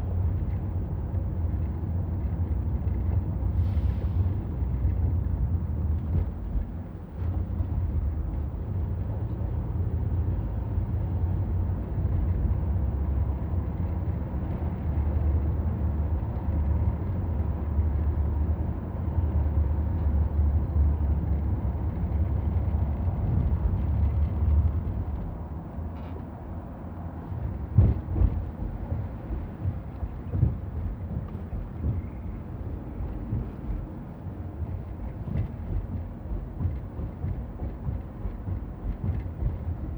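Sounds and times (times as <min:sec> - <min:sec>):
vehicle travel rumble: 0:00.0 - 0:39.9.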